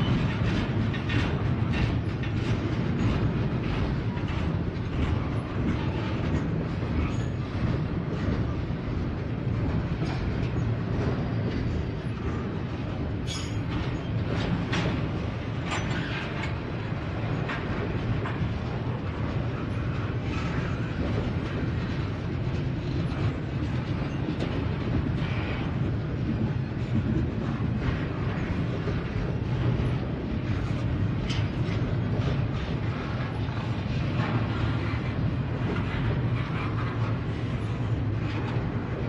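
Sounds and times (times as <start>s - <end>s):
train wheels clicking: 0.0s - 39.0s
train wheels rumbling on track: 0.0s - 39.0s.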